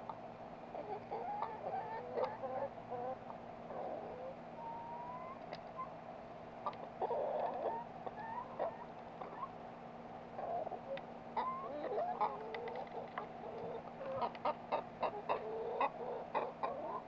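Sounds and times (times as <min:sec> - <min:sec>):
chickens clucking: 0:00.0 - 0:09.6, 0:10.3 - 0:17.0
steady low hum: 0:00.0 - 0:17.0.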